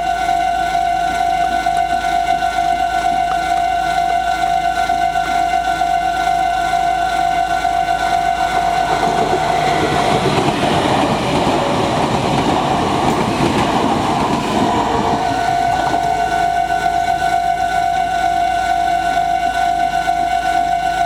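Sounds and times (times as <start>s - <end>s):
level crossing warning bell: 0.0s - 21.0s
train passing: 0.0s - 21.0s.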